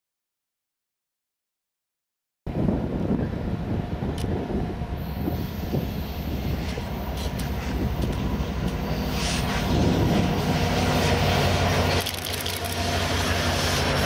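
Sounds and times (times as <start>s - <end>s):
diesel locomotive engine drone: 2.5s - 14.0s.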